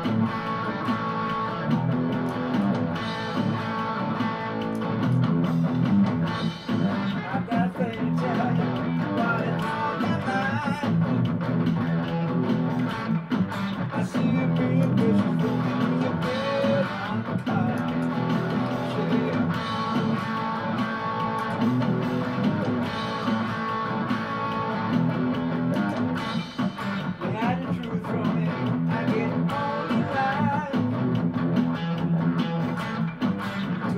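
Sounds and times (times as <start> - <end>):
electric guitar instrumental: 0.0 - 33.9.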